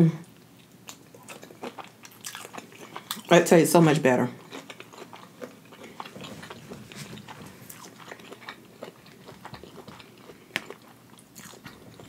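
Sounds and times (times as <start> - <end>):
mouth chewing food: 0.2 - 3.4, 4.4 - 12.0.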